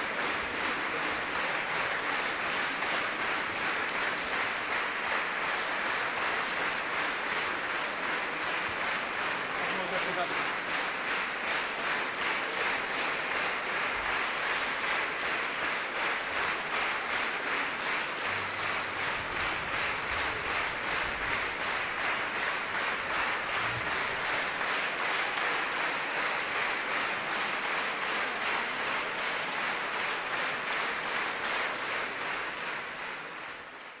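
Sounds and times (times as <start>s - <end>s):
audience clapping in rhythm: 0.0s - 34.0s.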